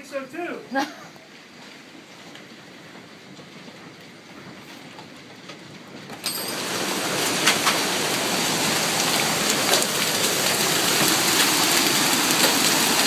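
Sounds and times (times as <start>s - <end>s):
heavy rain: 0.0s - 13.0s
wind: 0.0s - 13.0s.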